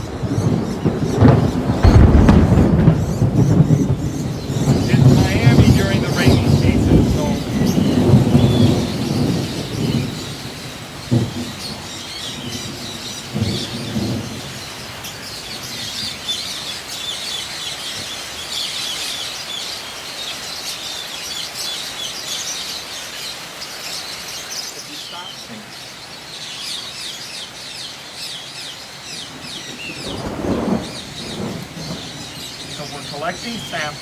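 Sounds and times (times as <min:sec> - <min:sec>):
lovebirds chattering: 0:00.0 - 0:34.0.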